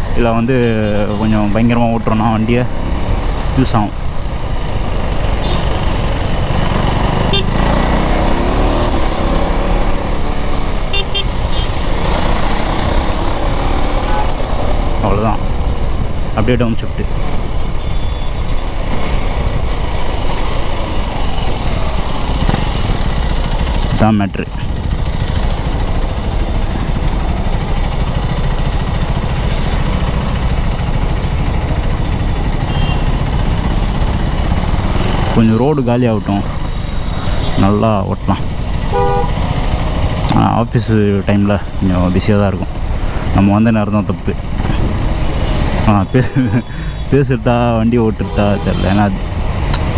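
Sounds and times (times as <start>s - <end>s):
motorcycle engine running: 0.0s - 16.4s, 17.1s - 47.1s.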